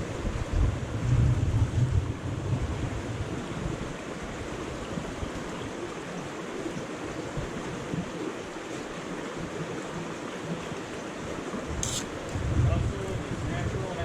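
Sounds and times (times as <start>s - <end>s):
stream rushing over rocks: 2.1s - 14.0s.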